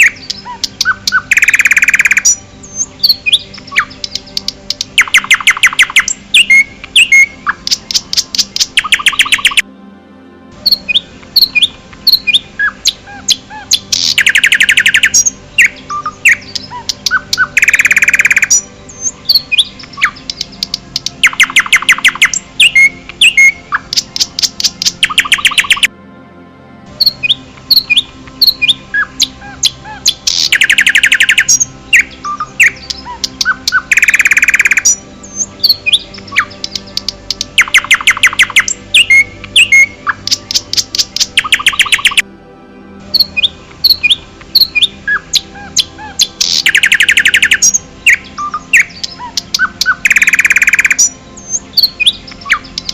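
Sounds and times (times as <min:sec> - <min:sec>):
bird chirps and whistles: 0:00.0 - 0:04.2, 0:05.0 - 0:09.6, 0:10.7 - 0:25.9, 0:27.0 - 0:36.8, 0:37.6 - 0:42.2, 0:43.2 - 0:52.9
bird trills: 0:00.0 - 0:09.6, 0:10.6 - 0:25.9, 0:27.0 - 0:42.2, 0:43.1 - 0:52.9.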